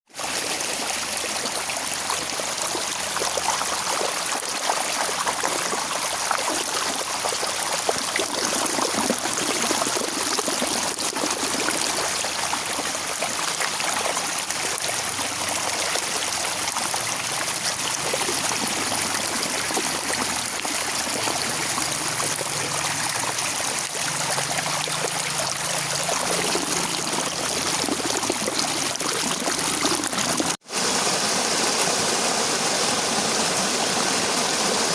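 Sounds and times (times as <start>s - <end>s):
water running and trickling: 0.2s - 30.6s.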